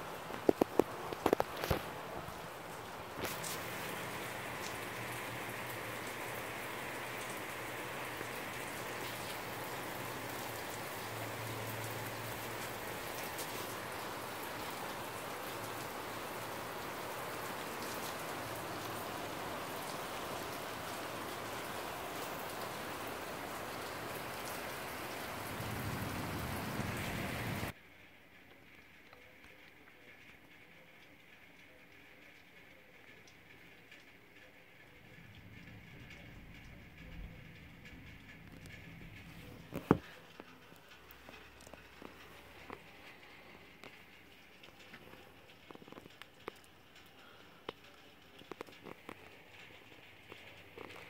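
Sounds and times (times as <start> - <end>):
rain falling: 0.0 - 51.0
raindrops ticking on surfaces: 0.0 - 51.0.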